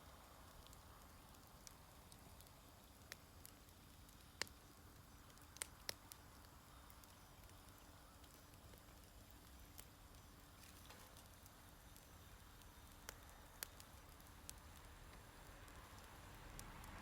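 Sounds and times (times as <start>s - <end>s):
fire crackling pops: 0.0s - 17.0s
fire hiss: 0.0s - 17.0s.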